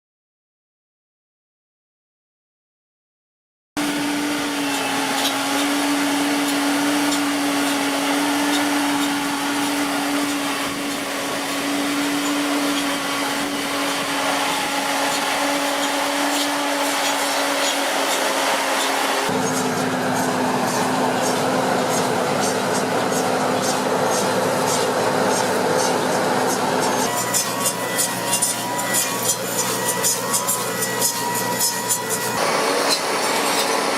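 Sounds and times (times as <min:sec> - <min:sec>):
machine whirring: 0:03.8 - 0:33.9.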